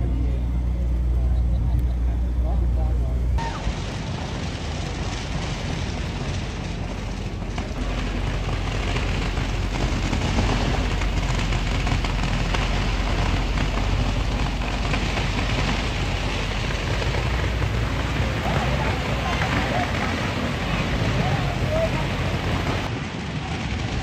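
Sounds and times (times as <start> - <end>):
truck engine passing: 0.0 - 24.0.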